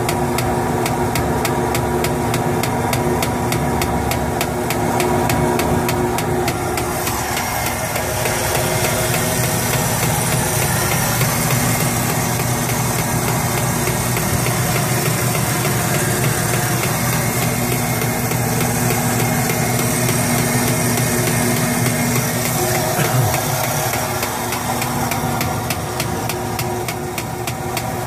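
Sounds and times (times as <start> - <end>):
motor hum and rattle: 0.0 - 28.0.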